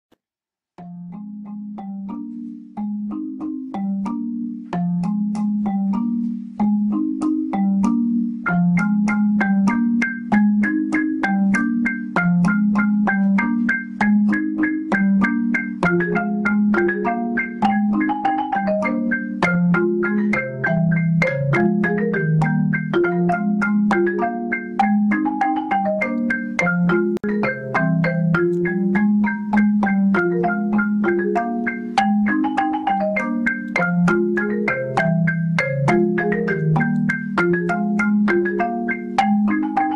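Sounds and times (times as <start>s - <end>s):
marimba music: 0.8s - 39.9s.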